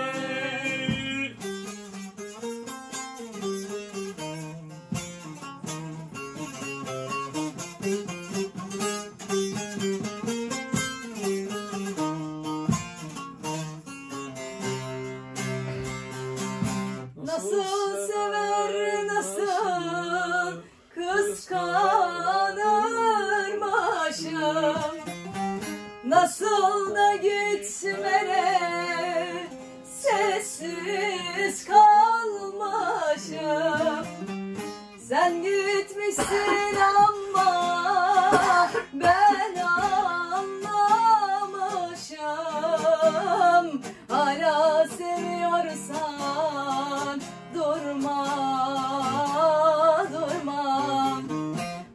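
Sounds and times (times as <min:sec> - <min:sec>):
woman singing folk song: 0:00.0 - 0:13.6, 0:14.6 - 0:51.9
plucked long-necked lute: 0:00.0 - 0:51.9.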